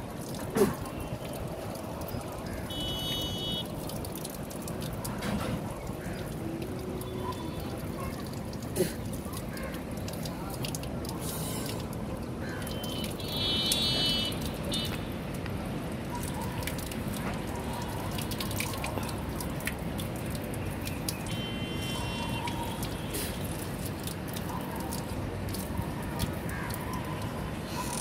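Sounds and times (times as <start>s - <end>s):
water dripping and trickling: 0.0s - 28.0s.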